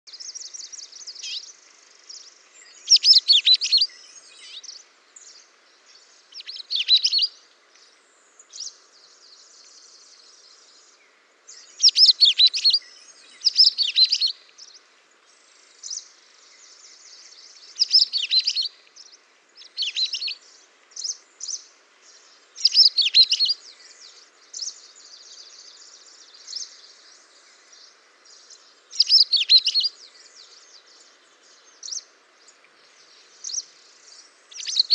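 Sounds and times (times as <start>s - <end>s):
soft bird twittering: 0.1s - 34.9s
songbirds trilling: 0.1s - 34.9s.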